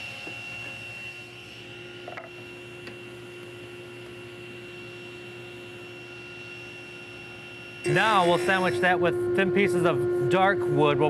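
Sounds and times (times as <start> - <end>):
electrical hum of shop equipment: 0.0 - 11.0.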